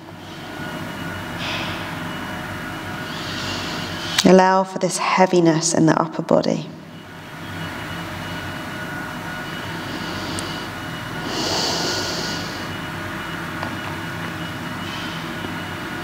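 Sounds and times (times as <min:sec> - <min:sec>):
machine-like drone with hum: 0:00.0 - 0:16.0.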